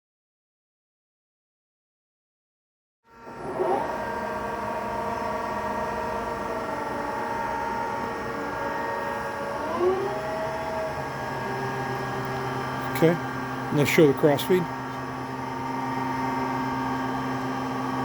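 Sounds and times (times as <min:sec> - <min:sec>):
lathe spindle whine: 0:03.1 - 0:18.0.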